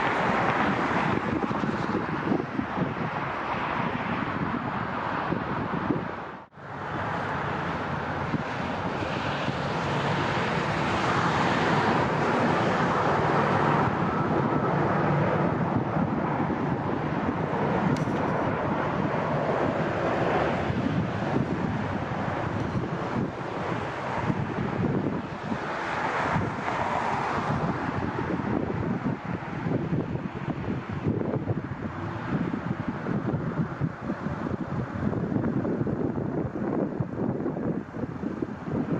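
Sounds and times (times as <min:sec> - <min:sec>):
jet engine noise: 0:00.0 - 0:38.9
wind buffeting microphone: 0:00.0 - 0:38.9.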